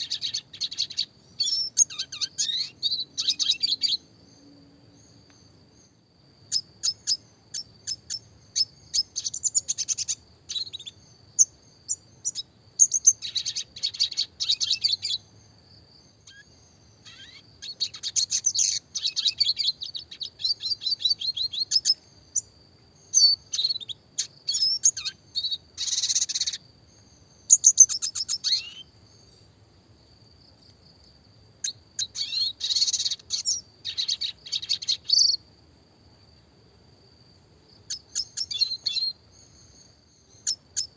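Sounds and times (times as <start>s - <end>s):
bird twittering and chirping: 0.0s - 4.4s, 5.0s - 15.4s, 16.1s - 29.5s, 31.6s - 35.4s, 37.9s - 40.9s.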